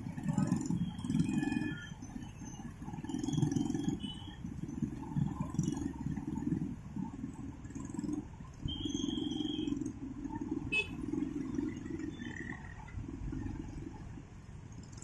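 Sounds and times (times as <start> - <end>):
traffic engines rumbling: 0.0 - 15.0.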